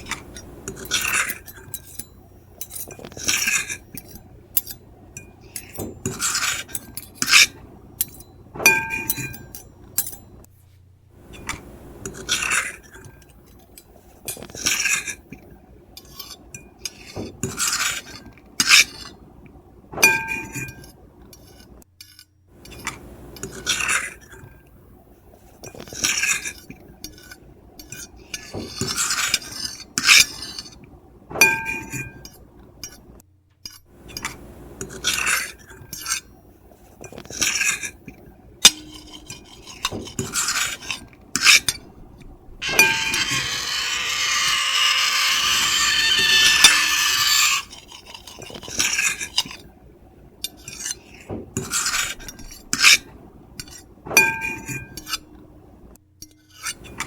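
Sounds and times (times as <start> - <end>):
fork and knife scratching a plate: 0.0 - 4.8, 5.5 - 10.2, 11.4 - 13.3, 14.2 - 15.3, 16.0 - 19.2, 20.2 - 24.6, 25.6 - 30.8, 34.1 - 49.7, 50.4 - 55.3, 56.3 - 57.0
long loud cutlery scrape: 0.0 - 10.4, 11.2 - 15.3, 16.0 - 19.2, 20.0 - 24.6, 25.4 - 33.0, 34.0 - 49.7, 50.4 - 55.4, 56.5 - 57.0.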